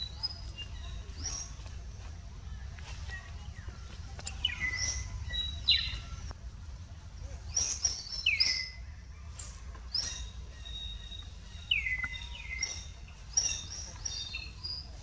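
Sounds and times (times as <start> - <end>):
birds chirping: 0.0 - 6.3, 7.4 - 15.0.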